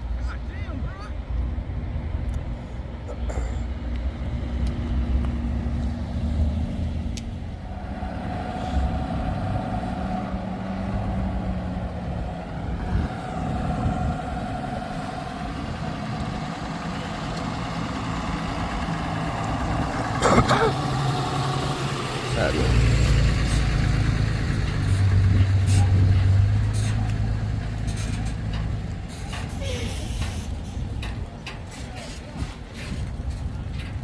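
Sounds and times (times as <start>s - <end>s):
vehicle engine running: 1.3s - 34.0s.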